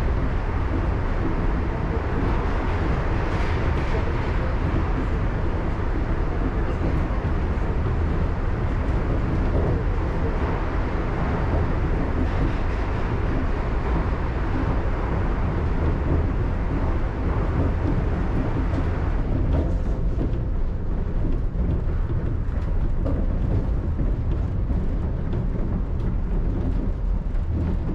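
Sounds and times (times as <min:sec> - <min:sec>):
monorail car rumbling: 0:00.0 - 0:27.9.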